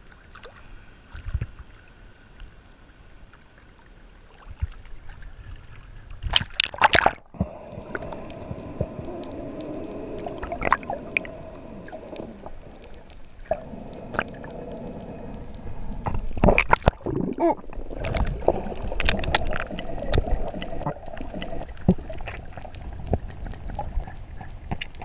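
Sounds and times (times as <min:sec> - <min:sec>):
small underwater clicks: 0:00.0 - 0:25.0
underwater low hum: 0:00.0 - 0:25.0
water splashing: 0:04.2 - 0:25.0
bubbling: 0:04.5 - 0:25.0.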